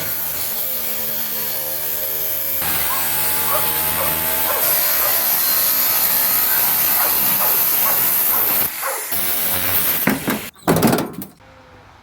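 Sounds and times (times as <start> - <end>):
power tool cutting sheet metal: 0.0 - 10.5.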